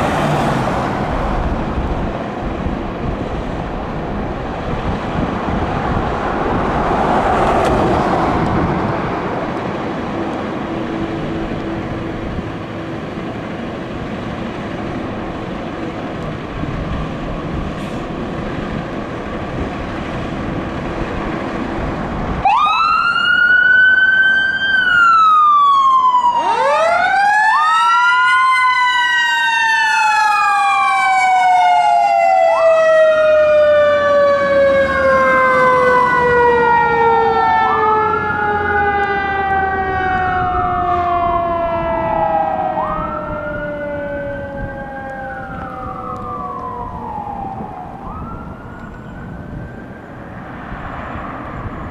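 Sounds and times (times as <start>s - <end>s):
sirens wailing: 0.0s - 51.9s.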